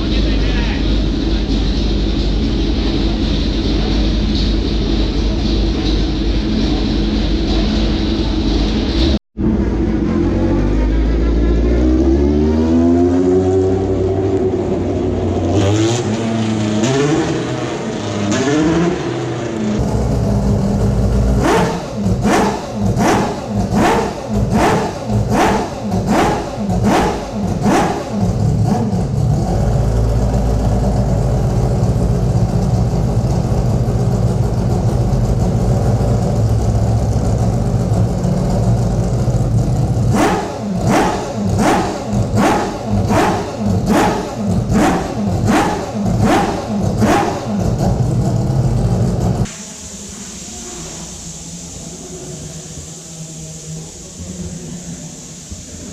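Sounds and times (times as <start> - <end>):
engine revving in sharp blips: 0.0 - 33.4, 34.6 - 49.6.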